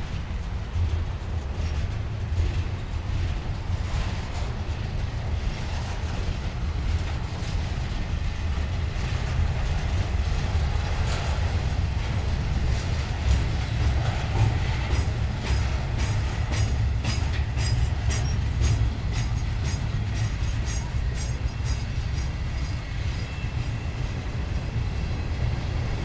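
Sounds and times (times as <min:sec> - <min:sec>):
freight train rolling past: 0:00.0 - 0:26.0
rattle of train cars: 0:00.0 - 0:26.0.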